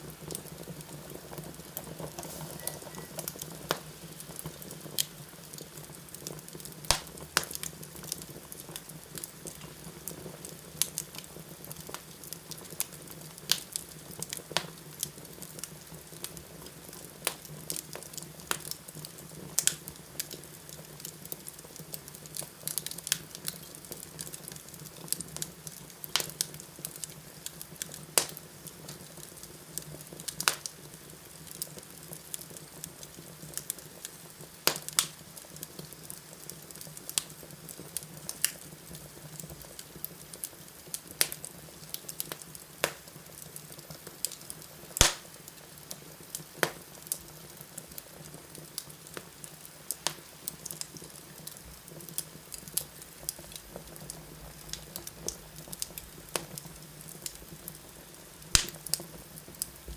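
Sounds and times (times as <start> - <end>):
low fire hiss and hum: 0.0 - 59.9
wood fire crackling and popping: 0.0 - 59.9.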